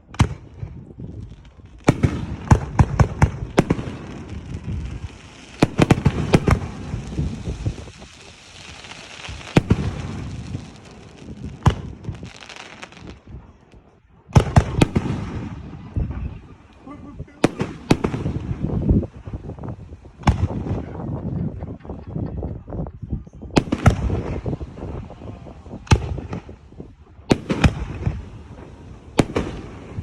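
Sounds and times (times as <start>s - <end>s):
fireworks bangs: 0.0s - 22.5s, 23.5s - 30.0s
fireworks crackling: 0.0s - 30.0s.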